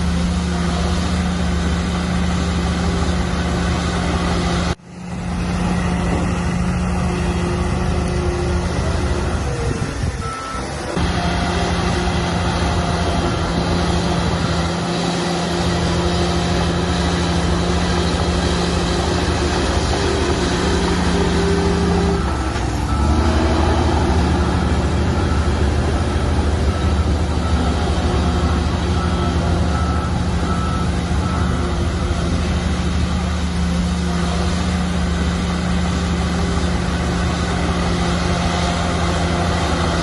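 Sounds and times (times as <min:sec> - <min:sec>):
heavy diesel engine droning: 0:00.0 - 0:40.0.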